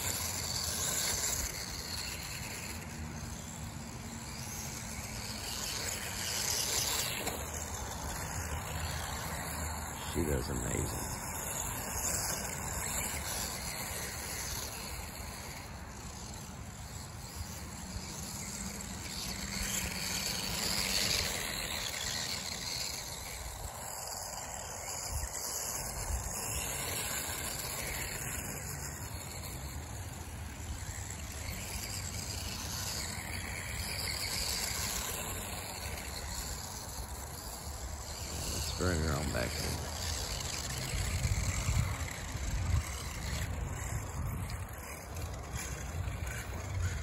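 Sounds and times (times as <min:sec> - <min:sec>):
high-pitched electric motor whine: 0:00.0 - 0:47.0.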